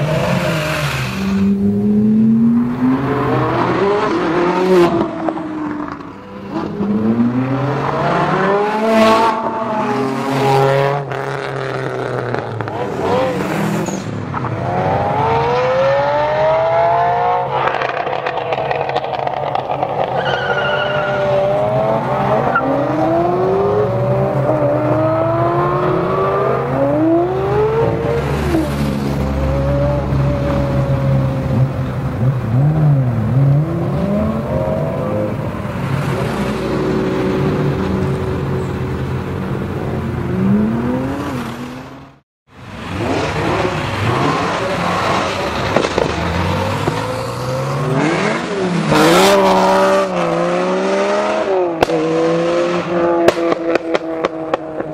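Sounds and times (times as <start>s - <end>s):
sports car engines revving: 0.0s - 54.9s.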